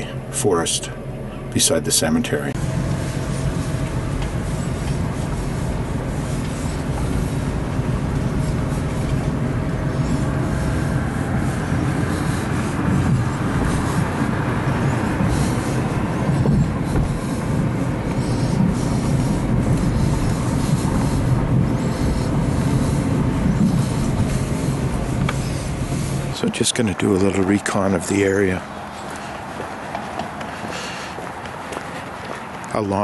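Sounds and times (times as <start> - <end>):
road and engine rumble in car cabin: 0.0 - 33.0.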